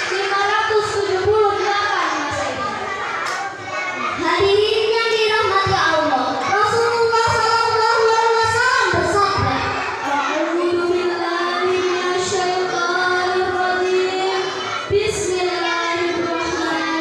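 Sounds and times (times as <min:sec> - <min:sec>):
girl singing into a microphone: 0:00.0 - 0:02.6, 0:04.2 - 0:17.0.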